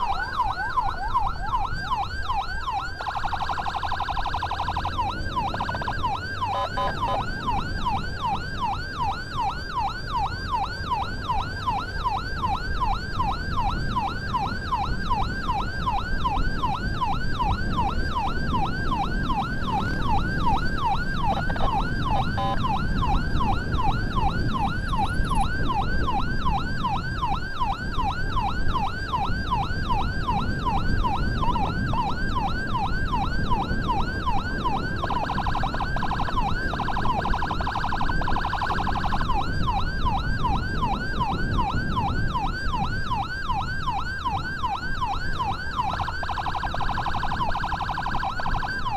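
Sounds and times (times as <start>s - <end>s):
ambulance siren yelping: 0.0s - 48.9s
low rumble of vehicle on road: 0.0s - 48.9s.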